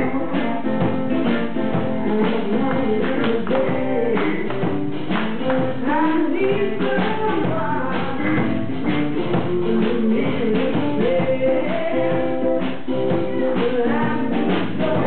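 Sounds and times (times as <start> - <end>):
drum kit: 0.0 - 15.0
electric guitars: 0.0 - 15.0
person singing: 0.0 - 15.0.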